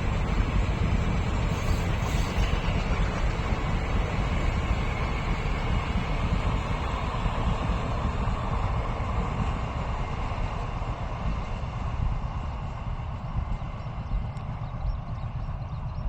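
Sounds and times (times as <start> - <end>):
train rumbling past: 0.0 - 14.7.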